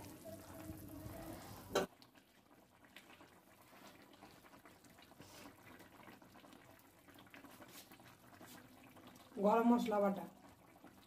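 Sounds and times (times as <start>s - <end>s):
gravy bubbling and popping: 0.0s - 11.0s.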